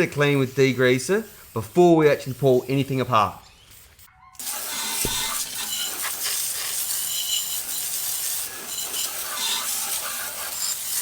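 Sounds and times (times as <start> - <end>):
spray can hissing: 0.2 - 11.0.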